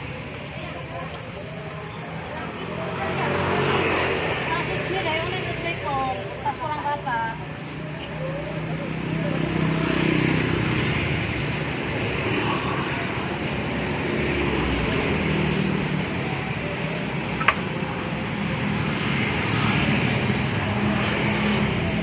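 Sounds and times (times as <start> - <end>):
motorcycles and cars rumbling: 0.0 - 22.0.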